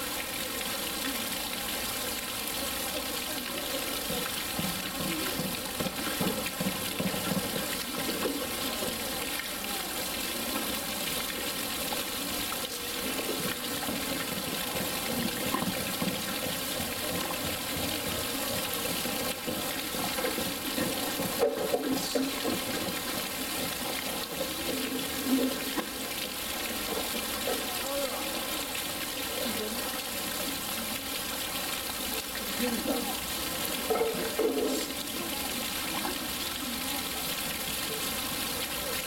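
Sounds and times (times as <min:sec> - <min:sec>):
water splashing in a pool: 0:00.0 - 0:39.0.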